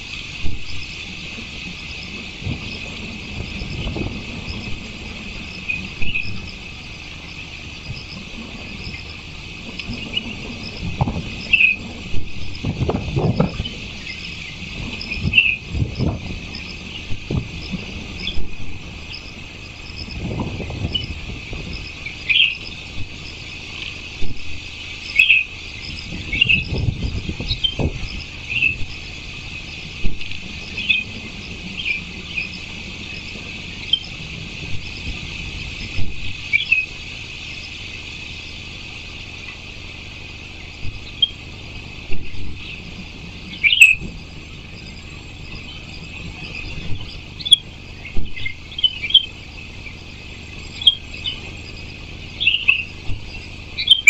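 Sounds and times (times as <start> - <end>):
birds chirping: 0.0 - 54.0
insects chirring: 0.0 - 54.0
low rumble: 0.0 - 54.0.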